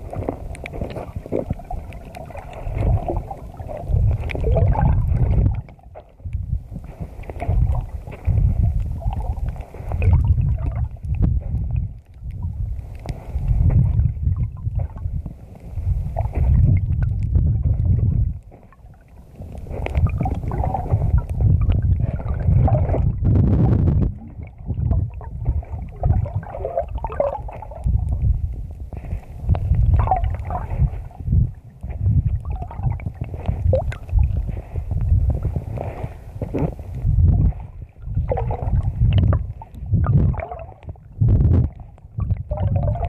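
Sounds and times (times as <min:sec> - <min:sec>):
underwater rumble and gurgling: 0:00.0 - 0:43.0.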